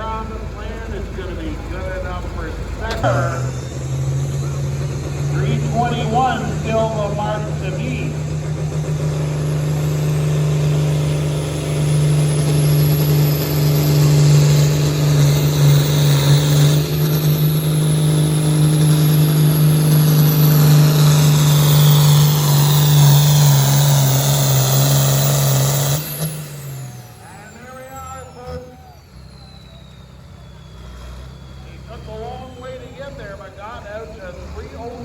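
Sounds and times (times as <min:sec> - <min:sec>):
high whine: 0:00.0 - 0:33.8
tractor diesel engine roaring: 0:00.0 - 0:35.0.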